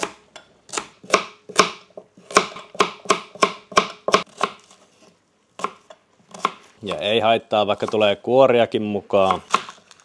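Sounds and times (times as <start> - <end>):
knife chopping on plastic board: 0.0 - 4.8, 5.6 - 8.2, 9.2 - 9.9.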